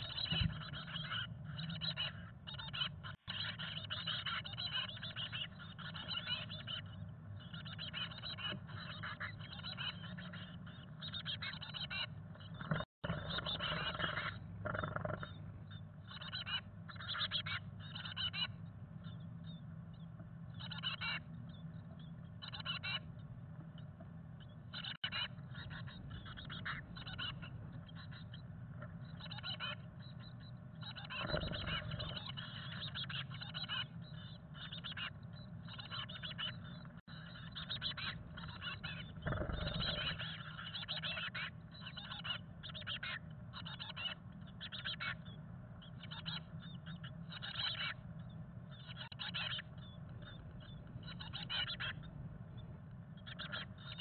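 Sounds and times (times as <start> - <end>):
nestlings chattering calls: 0.0 - 54.0
steady low hum: 0.0 - 54.0.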